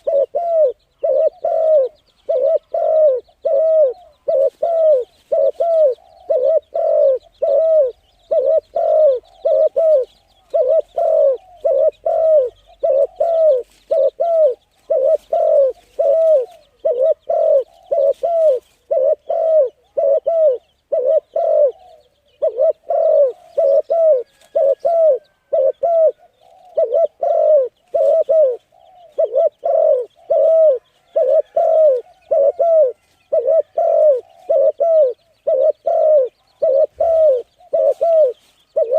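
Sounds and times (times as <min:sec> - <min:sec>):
bird hooting: 0:00.0 - 0:38.9
small birds chirping: 0:00.0 - 0:38.9.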